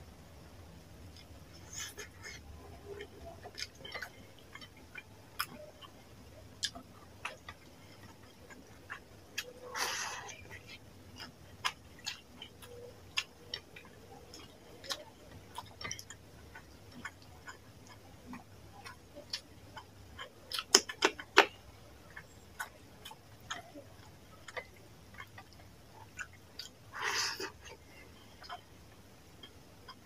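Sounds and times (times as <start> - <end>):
wet chewing and lip smacks: 1.1 - 28.7.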